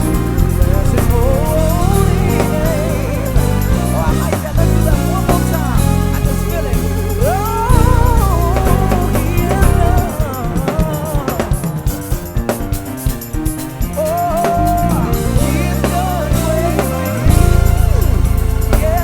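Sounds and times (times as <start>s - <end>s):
drums: 0.0s - 19.0s
electric bass groove: 0.0s - 19.0s
sliding lead melody: 0.0s - 19.0s.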